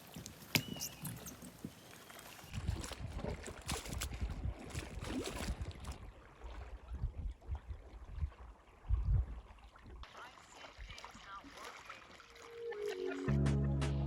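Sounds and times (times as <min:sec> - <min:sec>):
paddle splashing and dripping: 0:00.0 - 0:13.4.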